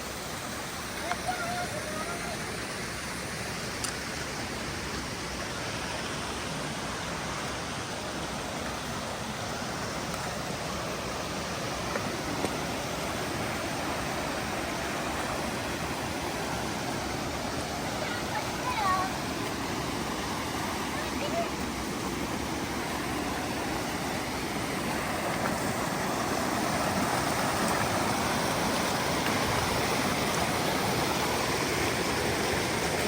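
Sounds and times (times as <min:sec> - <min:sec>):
mountain stream over rocks: 0:00.0 - 0:33.0.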